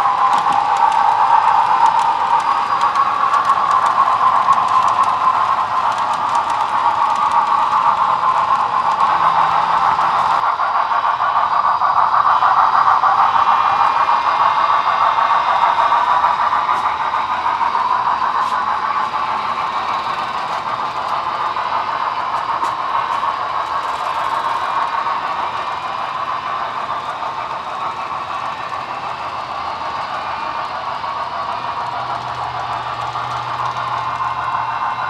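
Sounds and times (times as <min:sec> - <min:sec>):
model train wheels clattering: 0:00.0 - 0:35.0.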